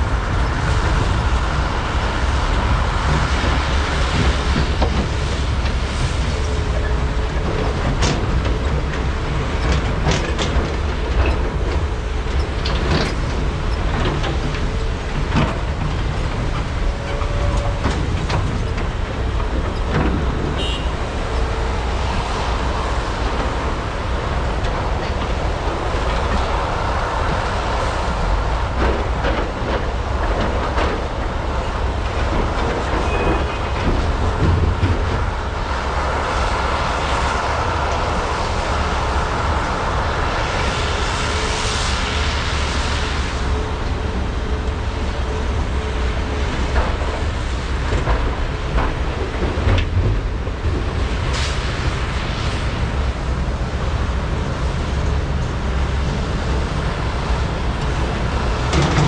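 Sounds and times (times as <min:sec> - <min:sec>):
excavator engines and hydraulics: 0:00.0 - 0:59.0.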